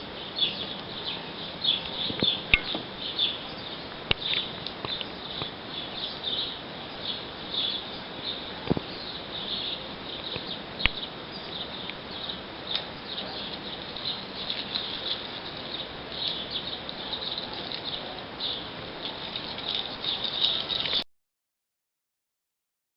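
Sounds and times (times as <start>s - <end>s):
small birds twittering: 0.0s - 21.0s.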